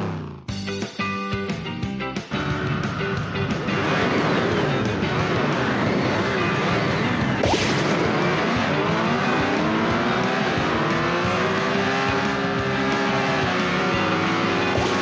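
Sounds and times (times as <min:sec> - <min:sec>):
racing car engine high revs: 0:00.0 - 0:00.5, 0:02.4 - 0:15.0.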